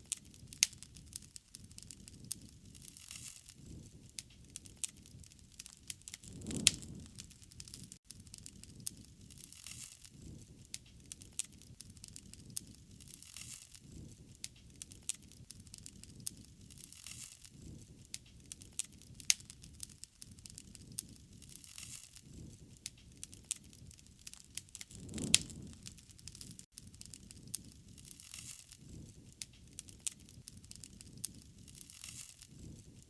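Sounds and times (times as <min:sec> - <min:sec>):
wood fire crackling and popping: 0:00.0 - 0:33.0
low rush of flame: 0:00.1 - 0:33.0.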